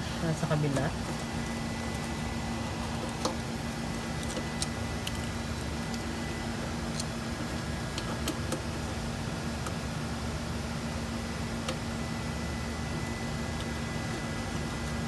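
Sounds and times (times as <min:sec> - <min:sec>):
electrical equipment humming: 0:00.0 - 0:15.0.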